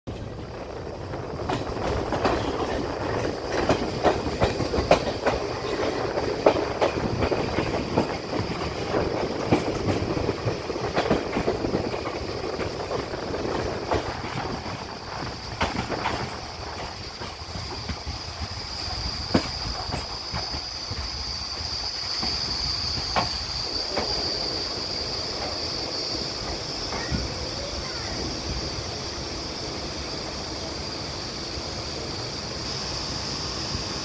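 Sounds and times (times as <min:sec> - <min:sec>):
wheels clacking over rail joints: 0:00.1 - 0:28.6
train wheels rumbling on rails: 0:00.1 - 0:34.0.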